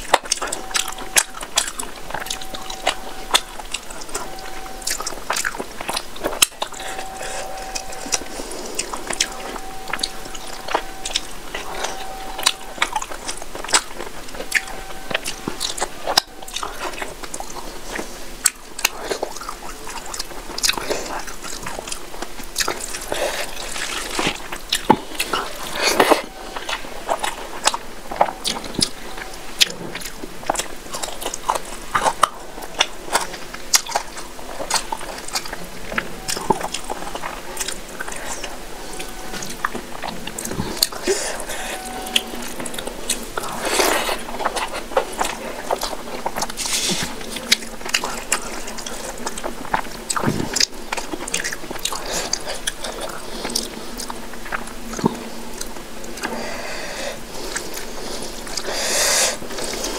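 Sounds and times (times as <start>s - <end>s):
chewing and mouth smacks: 0.0s - 56.6s, 57.3s - 59.9s.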